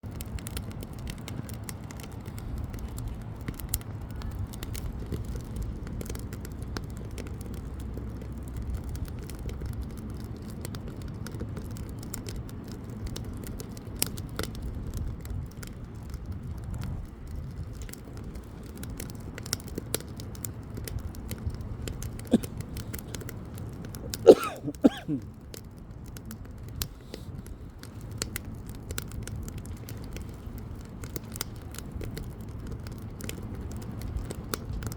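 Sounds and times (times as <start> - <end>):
bonfire low rumble: 0.0 - 34.9
firewood crackling and popping: 0.0 - 34.9.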